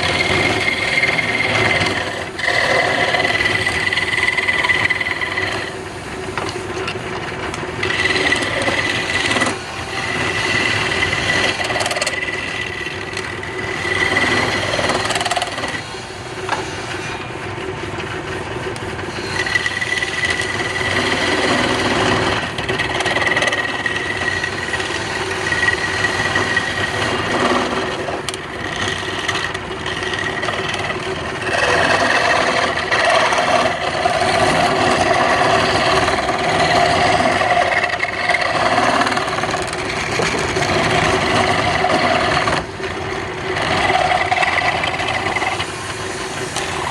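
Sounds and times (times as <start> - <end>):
tool scraping spinning wood: 0.0 - 46.9
wood lathe running: 0.0 - 46.9.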